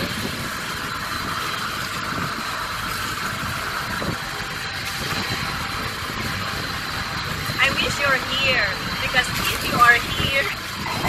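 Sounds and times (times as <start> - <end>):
boat engine droning: 0.0 - 11.0
rush of wind and water: 0.0 - 11.0.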